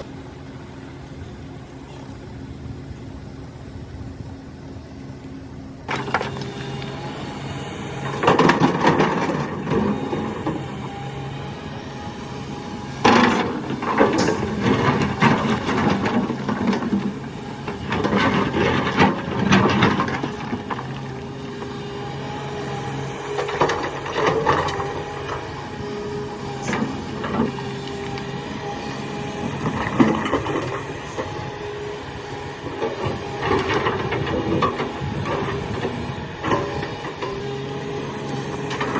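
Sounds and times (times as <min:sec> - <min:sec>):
excavator diesel engine: 0:04.3 - 0:38.9.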